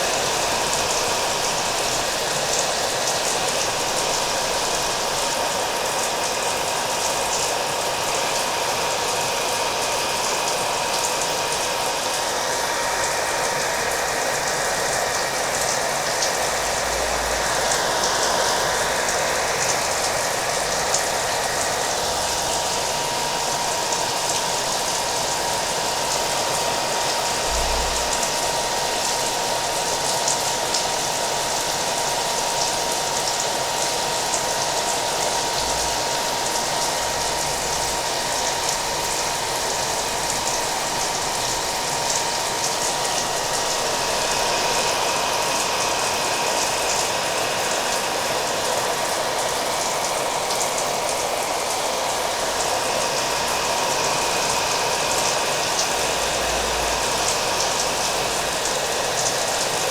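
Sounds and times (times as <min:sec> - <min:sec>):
hair dryer whining: 0:00.0 - 0:59.9
steady rain: 0:00.0 - 0:59.9.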